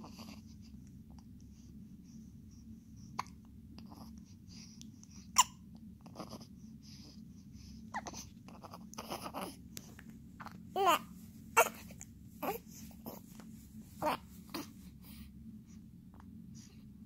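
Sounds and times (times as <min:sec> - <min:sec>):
soft breathing: 0:00.0 - 0:05.4, 0:06.0 - 0:17.0.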